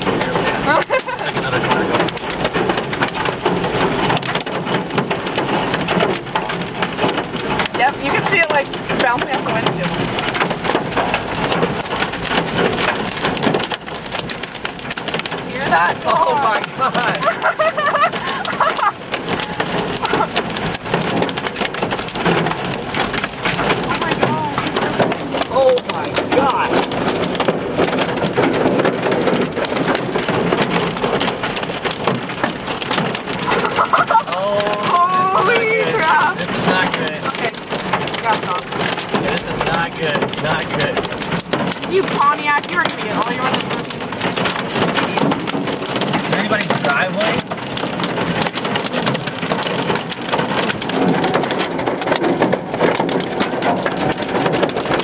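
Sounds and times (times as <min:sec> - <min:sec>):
hail pelting car roof: 0:00.0 - 0:55.0.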